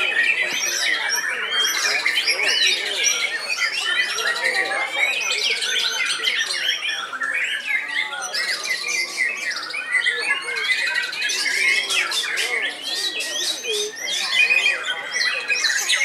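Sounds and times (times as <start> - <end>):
birds singing in chorus: 0.0 - 16.0.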